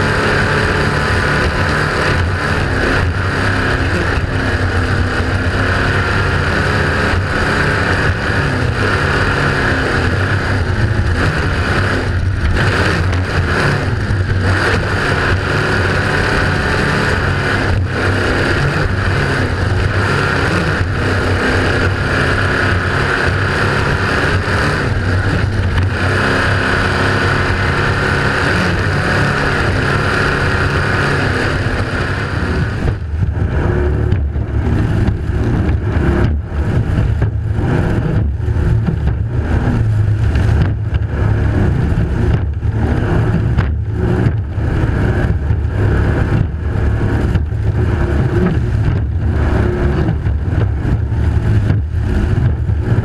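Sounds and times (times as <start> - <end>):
powerboat engines droning: 0.0 - 53.0.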